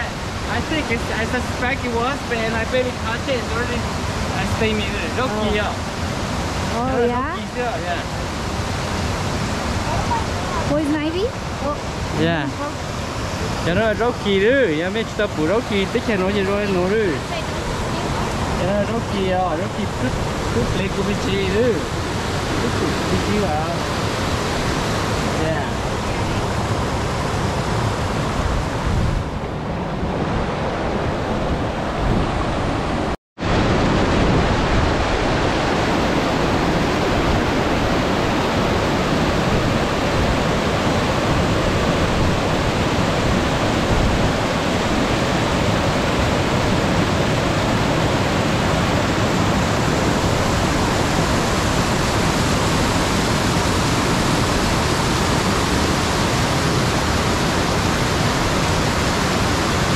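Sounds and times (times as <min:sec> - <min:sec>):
stream water over rocks: 0:00.0 - 0:29.4, 0:31.5 - 0:59.9.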